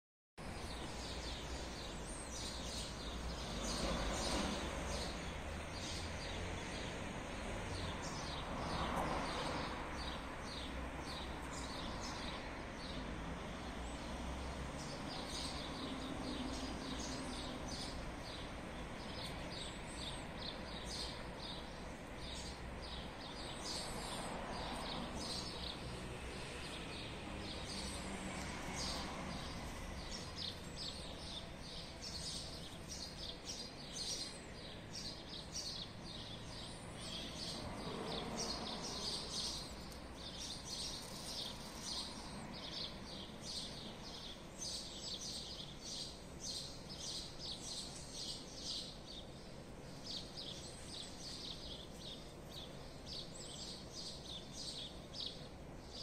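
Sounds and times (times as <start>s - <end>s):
birds chirping: 0.4s - 14.2s, 14.8s - 56.0s
low outdoor background noise: 0.4s - 56.0s.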